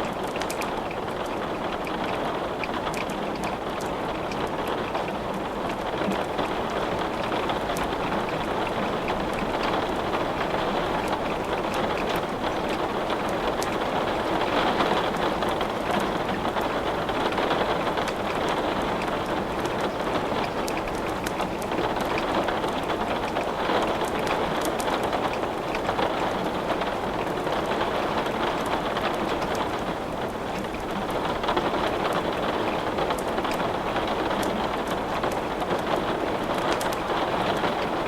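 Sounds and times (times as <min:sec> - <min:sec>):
steady rain pattering: 0:00.0 - 0:38.0
wood crackling in a fireplace: 0:00.0 - 0:38.0.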